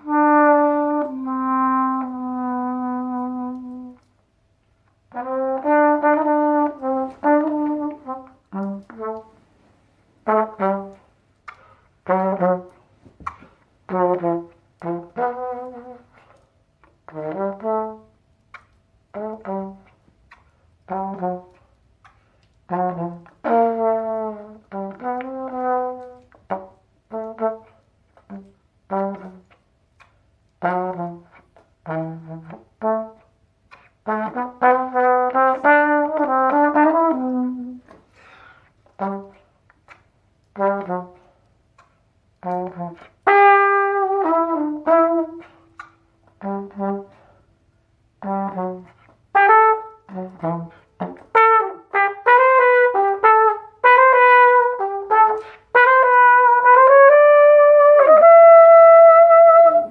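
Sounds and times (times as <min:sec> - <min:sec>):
trumpet playing blues: 0:00.0 - 0:59.9.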